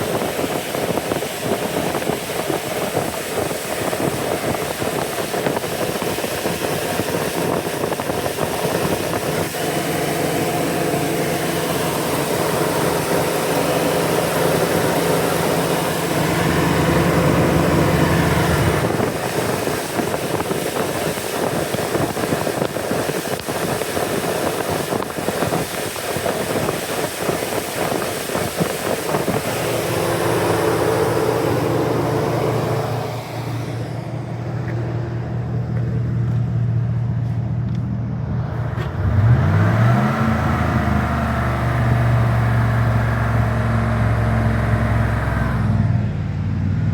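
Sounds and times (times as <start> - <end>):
car engine idling with misfire: 0.0 - 46.9.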